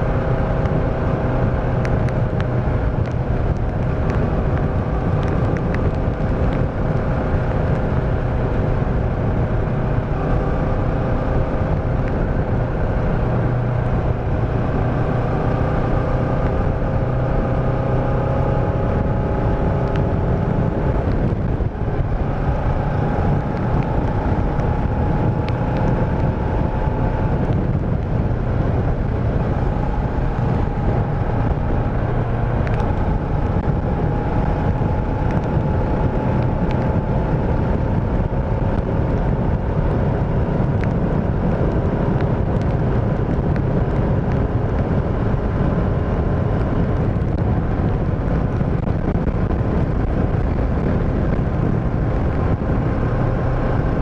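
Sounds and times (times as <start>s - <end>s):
motorcycle engine cruising: 0.0s - 54.0s
wind on microphone: 0.0s - 54.0s.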